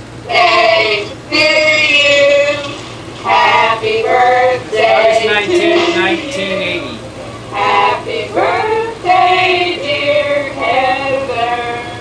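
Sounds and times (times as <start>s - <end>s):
women and children singing: 0.3s - 6.8s, 7.5s - 12.0s.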